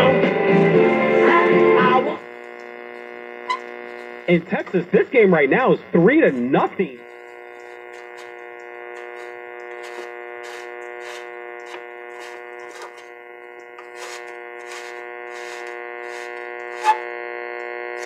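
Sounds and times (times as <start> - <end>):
radio static hum: 0.0 - 18.0
radio crackles and ticks: 1.8 - 18.0.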